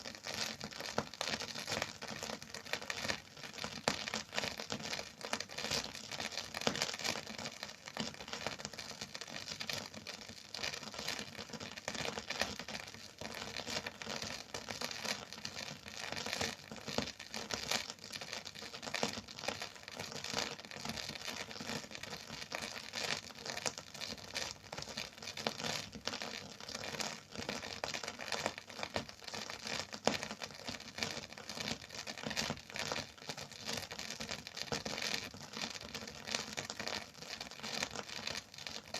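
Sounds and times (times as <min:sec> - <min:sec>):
vinyl record crackle: 0:00.0 - 0:38.9.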